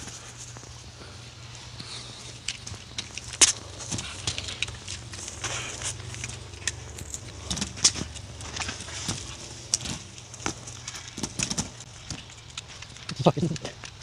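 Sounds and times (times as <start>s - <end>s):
dog gnawing rope: 0.1s - 14.0s.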